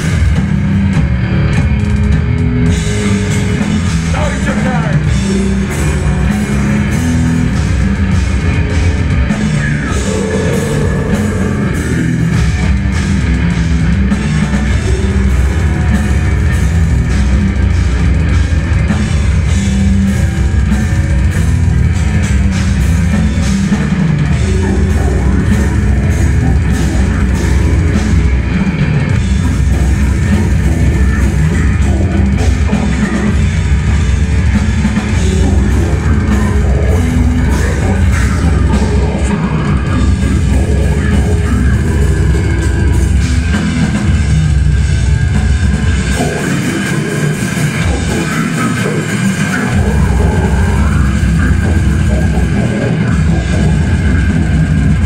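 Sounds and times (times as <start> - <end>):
death metal band playing live: 0.0 - 55.0.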